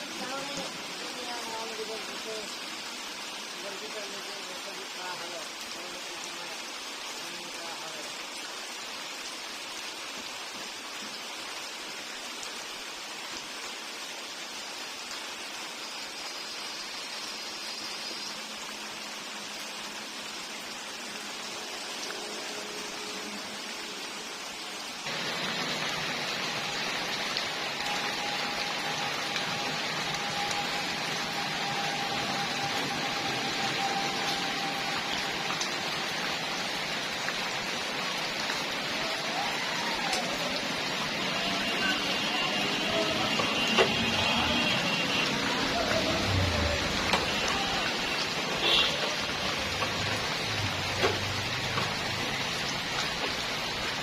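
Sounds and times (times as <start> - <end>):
rain hissing: 0.0 - 54.0.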